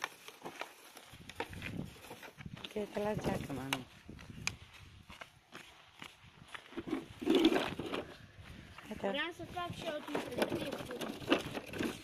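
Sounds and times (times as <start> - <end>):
footsteps crunching on snow: 0.0 - 10.1.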